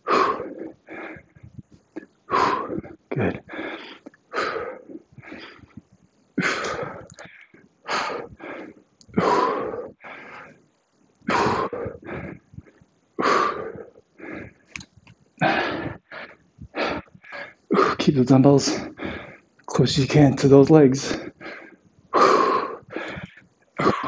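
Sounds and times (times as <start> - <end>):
man breathing hard: 0.0 - 5.8, 6.4 - 14.7, 15.4 - 18.0, 18.7 - 19.6, 21.0 - 24.0.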